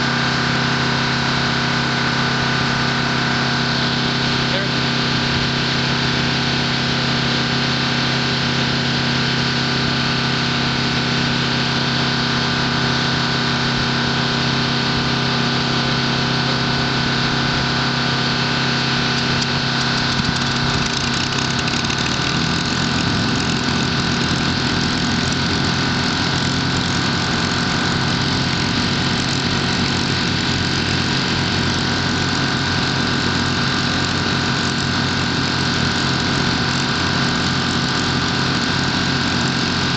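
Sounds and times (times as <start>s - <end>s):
piston engine idling: 0.0s - 39.9s.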